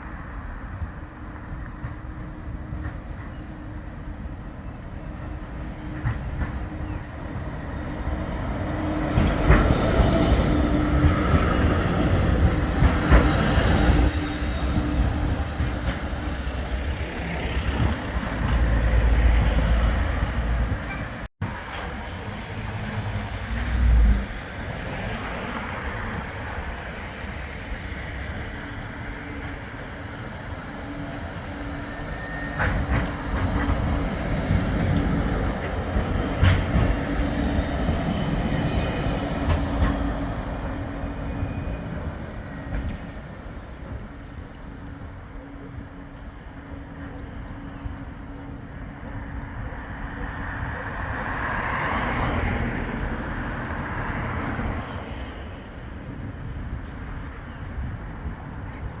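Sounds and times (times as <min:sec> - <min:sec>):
tram rumbling past: 0:00.0 - 0:59.0.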